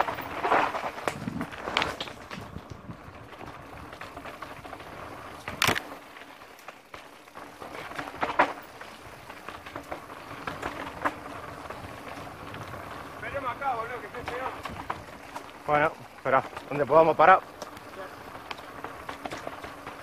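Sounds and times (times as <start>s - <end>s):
tyres over dirt and stones: 0.0s - 20.0s.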